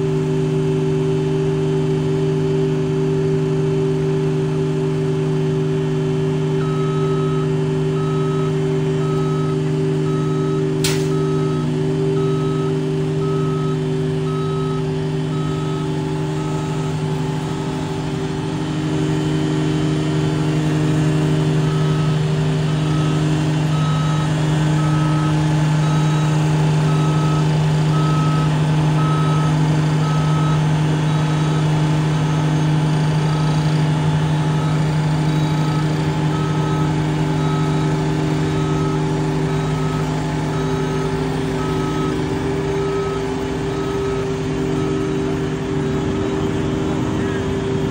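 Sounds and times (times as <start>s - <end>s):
diesel engine running: 0.0s - 47.9s
reversing alarm beeping: 6.0s - 47.9s.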